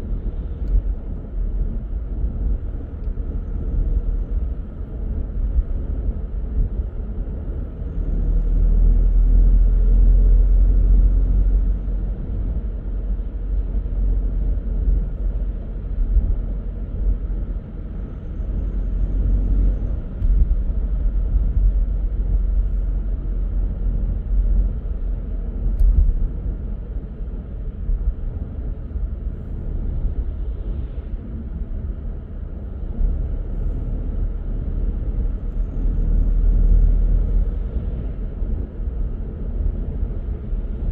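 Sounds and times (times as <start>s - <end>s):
car driving on road: 0.0s - 40.9s.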